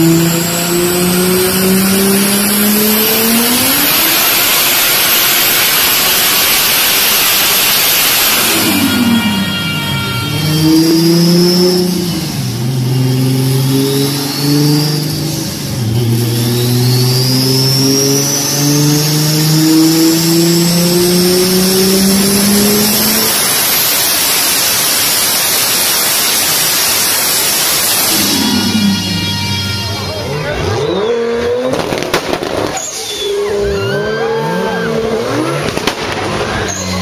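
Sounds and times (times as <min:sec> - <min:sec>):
car engine accelerating hard: 0:00.0 - 0:37.0
steady rush: 0:00.0 - 0:37.0
turbo whistle: 0:00.0 - 0:37.0.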